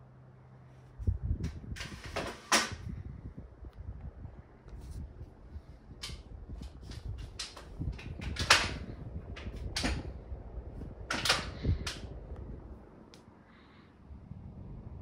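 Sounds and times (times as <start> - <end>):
ceiling fan running: 0.0 - 15.0.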